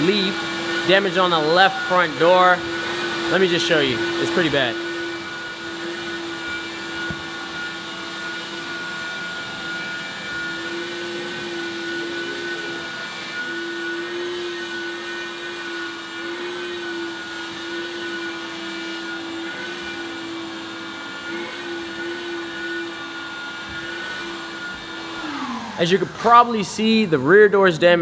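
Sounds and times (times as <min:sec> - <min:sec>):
electric motor whine: 0:00.0 - 0:27.6.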